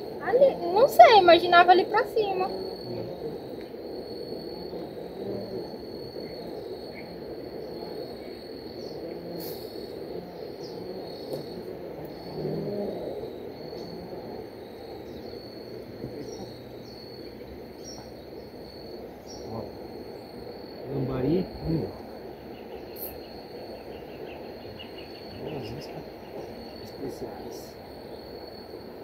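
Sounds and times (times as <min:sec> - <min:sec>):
insects trilling: 0:00.0 - 0:29.0
low background hiss: 0:00.0 - 0:29.0.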